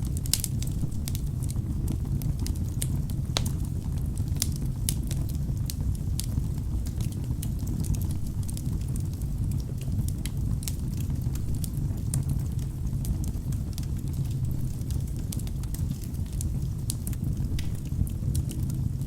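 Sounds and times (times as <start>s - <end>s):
logs crackling and popping: 0.0s - 19.0s
low rumble of flames: 0.0s - 19.0s.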